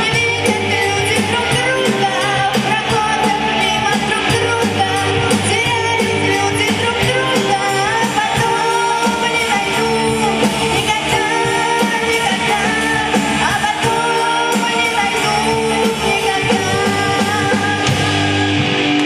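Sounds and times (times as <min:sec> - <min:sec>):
person singing: 0:00.0 - 0:19.0
pop band playing live: 0:00.0 - 0:19.0
steady drum beat: 0:00.0 - 0:19.0.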